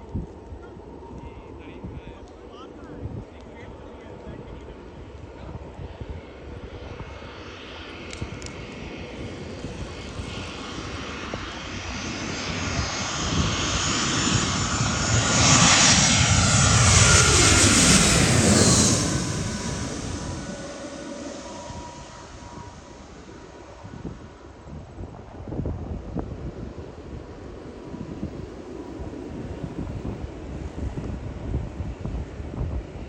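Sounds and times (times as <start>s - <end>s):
jet airliner passing overhead: 0.0s - 33.0s.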